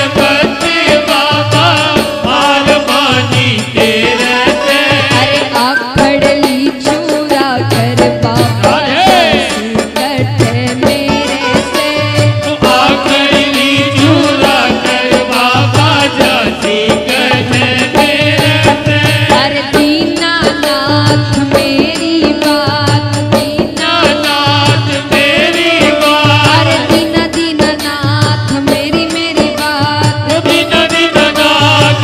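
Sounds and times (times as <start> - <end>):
instrumental accompaniment: 0.0 - 32.0
woman singing devotional song: 0.0 - 32.0.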